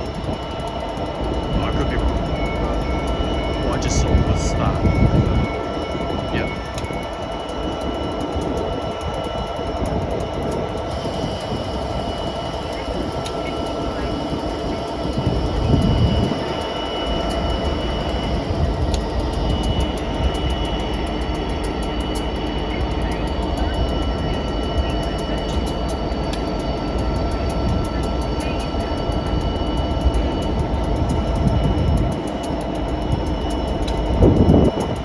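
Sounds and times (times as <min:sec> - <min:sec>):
rapid ticking: 0:00.0 - 0:35.0
train rumbling past: 0:00.0 - 0:35.0.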